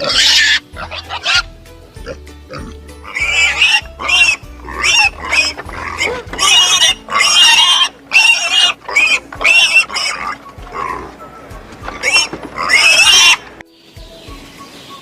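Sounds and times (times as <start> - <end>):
pig squealing: 0.0 - 11.2, 11.8 - 13.5
faint background music: 0.0 - 15.0.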